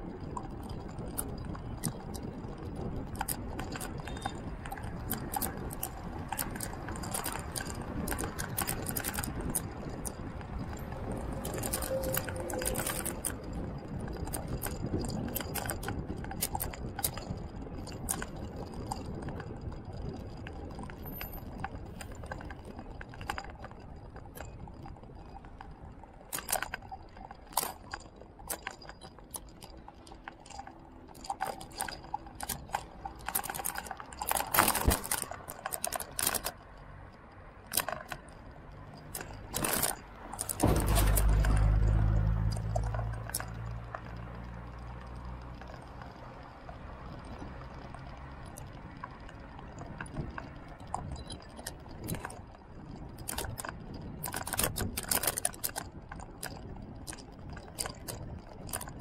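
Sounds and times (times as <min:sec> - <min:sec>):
sharp clicks and rattles: 0:00.0 - 0:59.0
wind and tyre rumble: 0:00.0 - 0:59.0.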